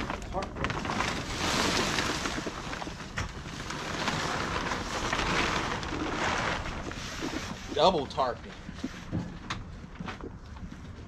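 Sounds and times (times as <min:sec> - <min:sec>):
plastic tarps rustling and crinkling: 0:00.0 - 0:11.0.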